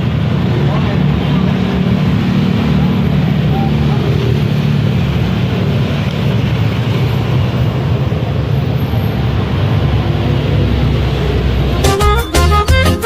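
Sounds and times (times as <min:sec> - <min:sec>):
loud steady rumbling: 0:00.0 - 0:12.2.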